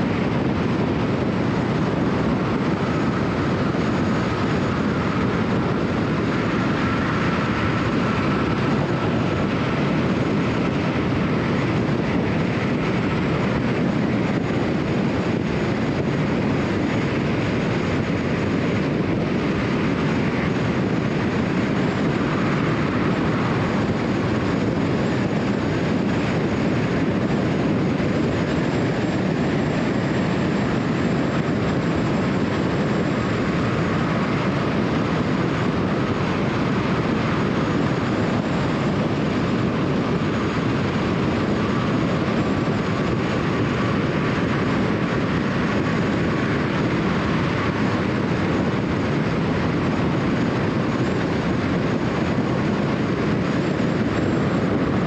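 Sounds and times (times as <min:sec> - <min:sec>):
car road and tyre noise: 0:00.0 - 0:55.0.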